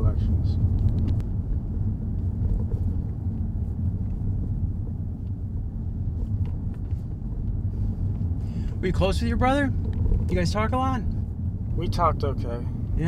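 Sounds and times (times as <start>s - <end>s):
car driving interior rumble: 0.0s - 13.0s.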